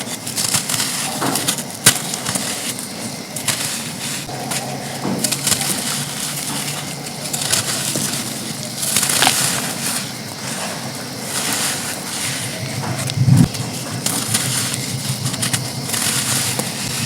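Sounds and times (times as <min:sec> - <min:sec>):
sand crunching and crackling: 0:00.0 - 0:17.0.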